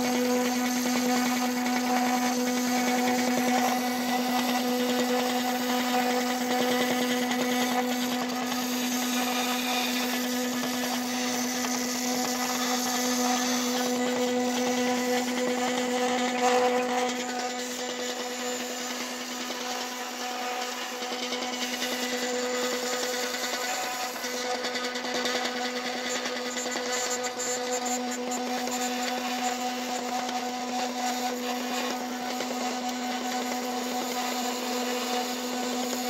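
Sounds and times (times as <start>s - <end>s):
small electric motor whirring: 0.0s - 36.0s.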